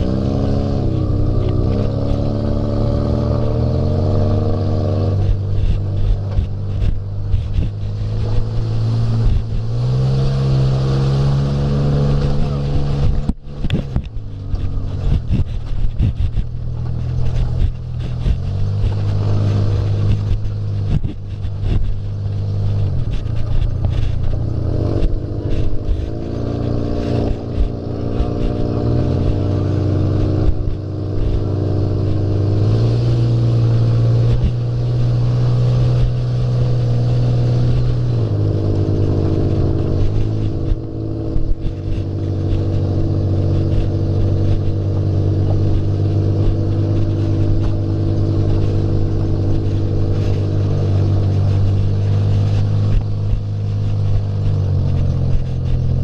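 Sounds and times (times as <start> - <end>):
buggy engine revving: 0.0 - 56.0.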